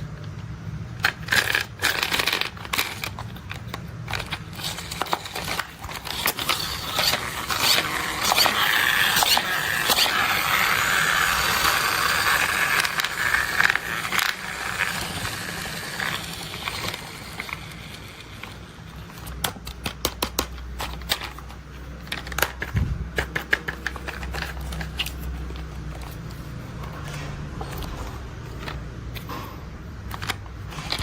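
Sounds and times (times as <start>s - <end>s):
toy vehicles scraping and crunching: 1.0s - 31.0s.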